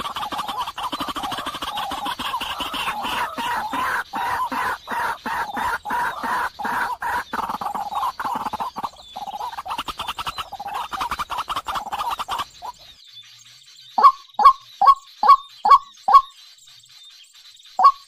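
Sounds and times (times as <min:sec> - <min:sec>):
birds chattering: 0:00.0 - 0:18.0.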